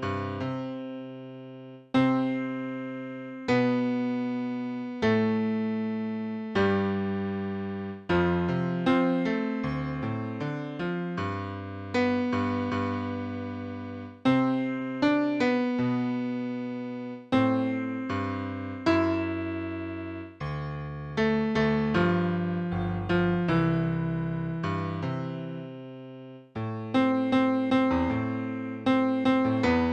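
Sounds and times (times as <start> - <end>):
solo piano: 0.0 - 29.9.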